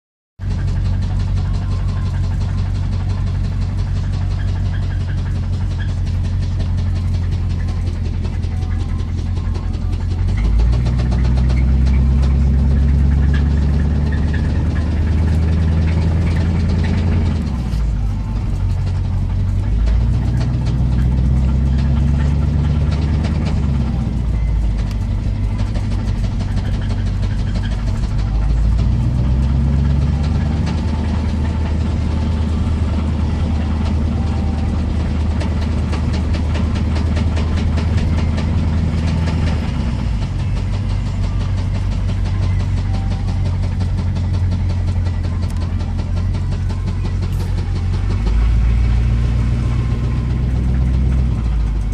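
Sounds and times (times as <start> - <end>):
engine knock ticking: 0.4 - 51.9
truck engine running: 0.4 - 51.9.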